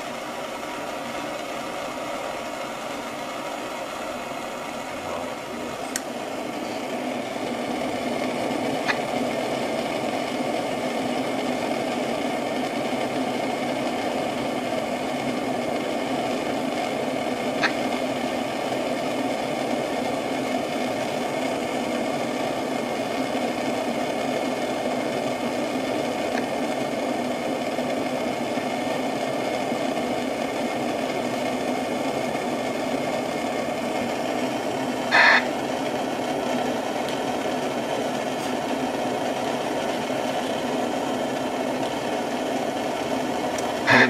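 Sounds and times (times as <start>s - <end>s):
steady mechanical running noise: 0.0s - 44.0s.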